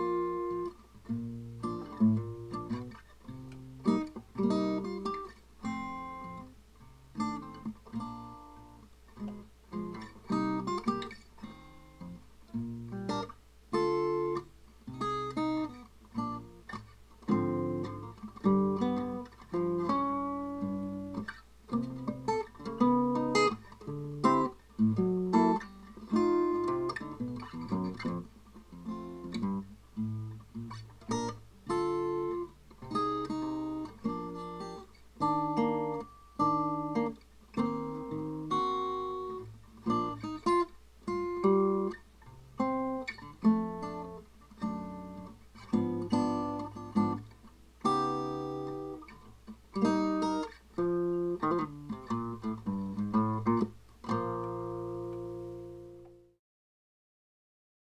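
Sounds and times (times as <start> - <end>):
acoustic guitar picking: 0.0 - 56.3.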